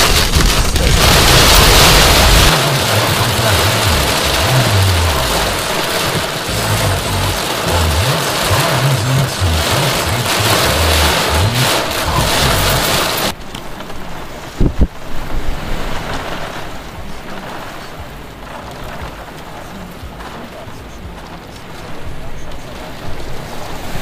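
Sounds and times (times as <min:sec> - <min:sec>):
heavy rain and hail: 0:00.0 - 0:24.0.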